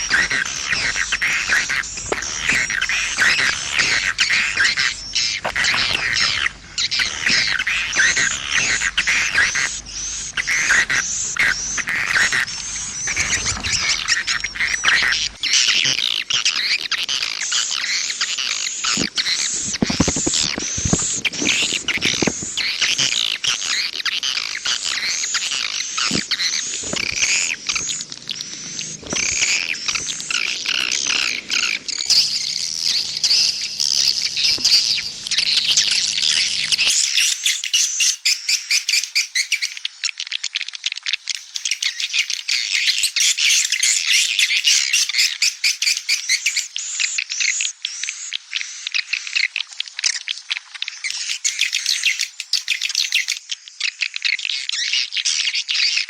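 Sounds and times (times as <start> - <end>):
chorus of twittering bird chirps: 0.0 - 56.0.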